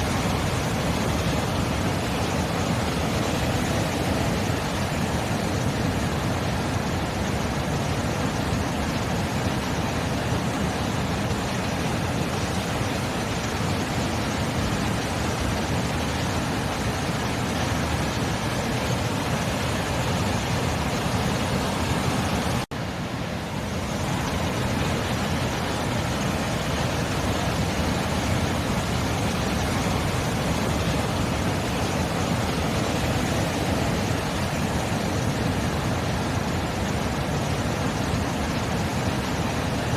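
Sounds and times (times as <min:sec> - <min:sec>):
sea surf rushing: 0:00.0 - 0:39.9.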